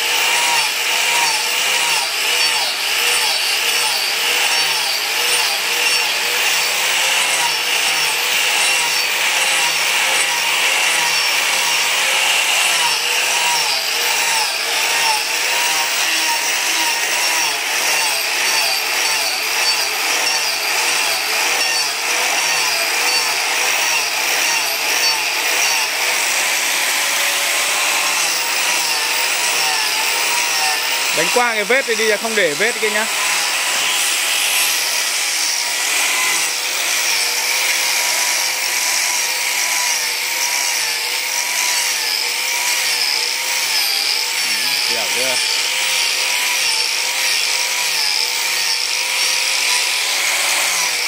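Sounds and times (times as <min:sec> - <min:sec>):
abrasive disc grinding wood: 0:00.0 - 0:38.8, 0:43.6 - 0:47.0
angle grinder motor whine: 0:00.0 - 0:51.0.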